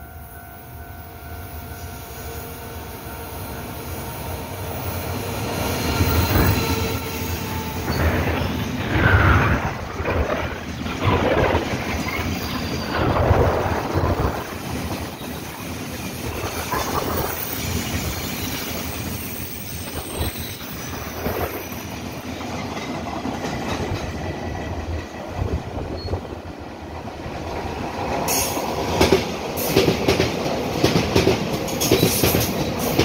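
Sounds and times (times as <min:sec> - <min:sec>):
locomotive approaching: 0:00.0 - 0:33.0
train wheels rumbling and clattering: 0:03.7 - 0:33.0.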